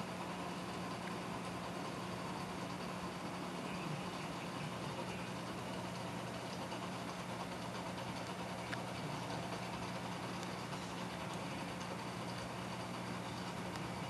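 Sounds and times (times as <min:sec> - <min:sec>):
aquarium pumps humming: 0:00.0 - 0:14.0.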